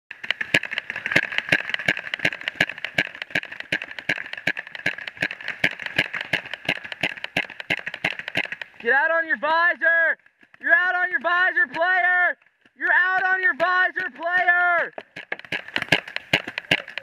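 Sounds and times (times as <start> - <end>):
paintball markers popping: 0.1 - 9.0, 10.2 - 17.0.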